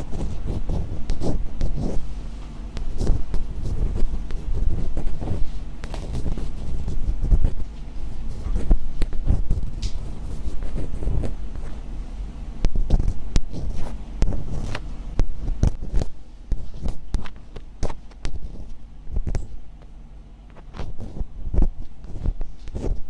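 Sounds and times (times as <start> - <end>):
crisp scratching close up: 0.0 - 2.1, 2.8 - 11.8, 12.8 - 19.6, 20.5 - 23.0.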